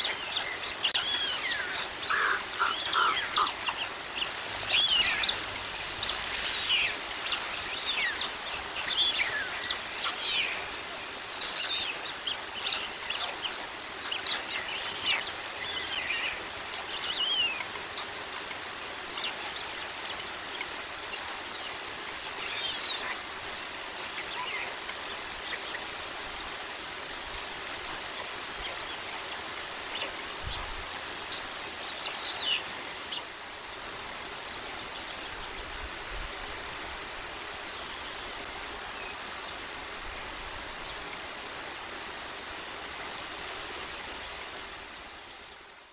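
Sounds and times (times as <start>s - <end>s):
heavy rain hiss: 0.0s - 45.9s.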